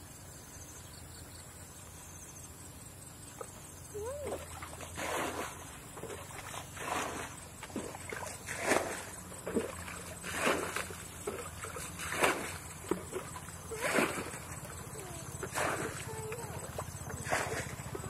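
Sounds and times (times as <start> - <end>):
splashing in muddy water: 3.3 - 18.0.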